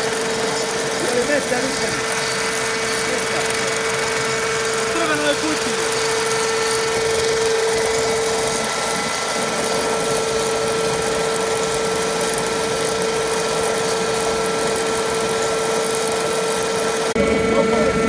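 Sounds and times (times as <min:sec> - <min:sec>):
chainsaw cutting into ground: 0:00.0 - 0:18.0.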